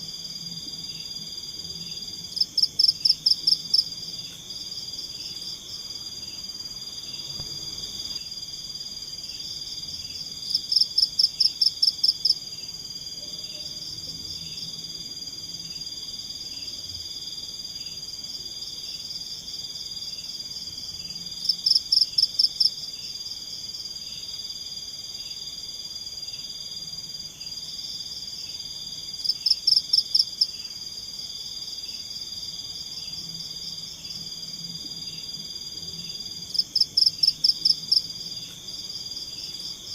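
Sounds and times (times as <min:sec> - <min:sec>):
insects and frogs trilling: 0:00.0 - 0:39.9.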